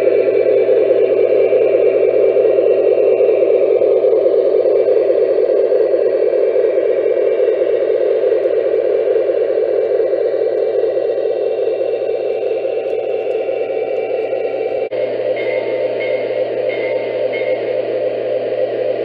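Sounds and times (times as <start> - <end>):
locomotive sound system tones: 0.0 - 19.0
model train running: 0.0 - 19.0.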